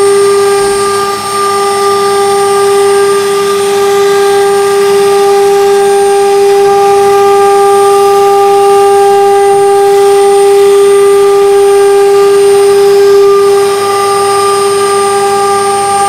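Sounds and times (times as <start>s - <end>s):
bit cutting wood: 0.0s - 16.0s
router spindle whining: 0.0s - 16.0s.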